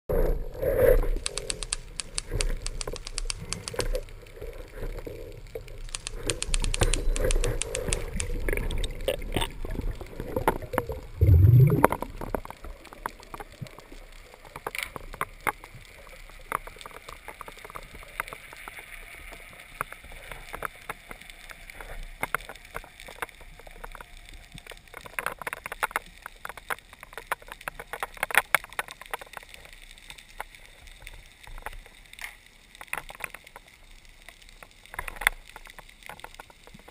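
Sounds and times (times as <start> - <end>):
underwater water rushing: 0.1 - 29.8
underwater clicks and crackles: 0.1 - 36.9.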